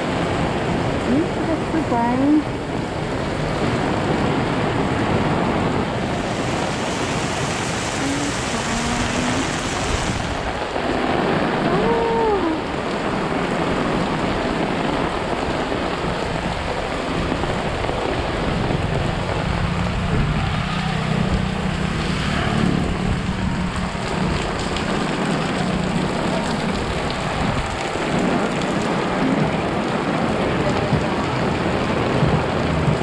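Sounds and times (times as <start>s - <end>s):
heavy rain pouring on awnings: 0.0s - 33.0s.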